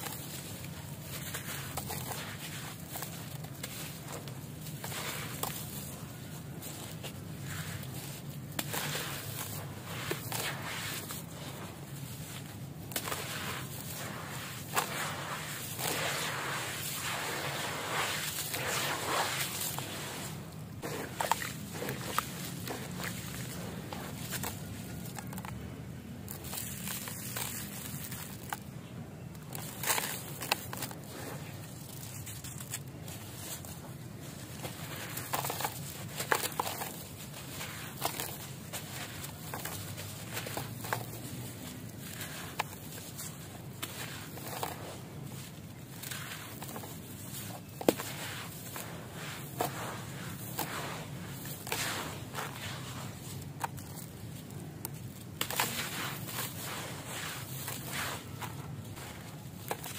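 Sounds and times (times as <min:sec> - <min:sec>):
grit falling on wet pile: 0:00.0 - 0:25.6, 0:26.2 - 0:28.6, 0:29.4 - 0:59.9
concrete crunching by hand: 0:00.0 - 0:28.7, 0:29.4 - 0:59.9.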